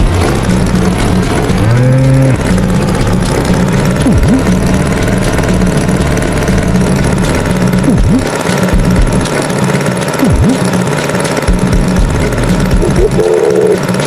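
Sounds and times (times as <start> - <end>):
cartoon tractor engine chugging: 0.0 - 14.0
low held tone: 0.0 - 14.0.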